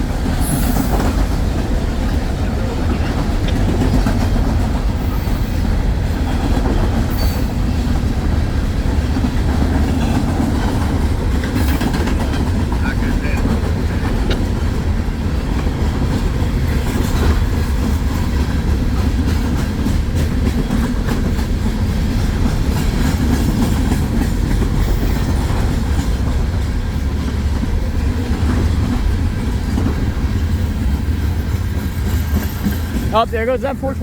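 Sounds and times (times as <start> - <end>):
freight train wheels rumbling: 0.0 - 34.0
wheels clicking over rail joints: 0.0 - 34.0.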